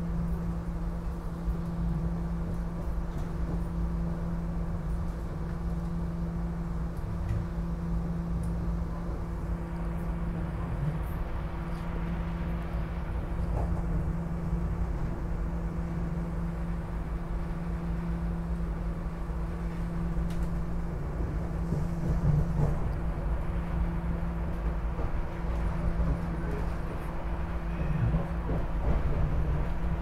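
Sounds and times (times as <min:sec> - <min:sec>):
constant hum: 0:00.0 - 0:30.0
train wheels rumbling on track: 0:00.0 - 0:30.0.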